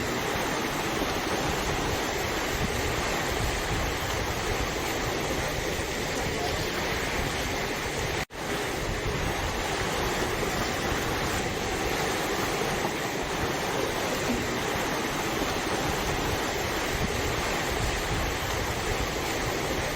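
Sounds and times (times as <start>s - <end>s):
flooded river rushing: 0.0s - 19.9s.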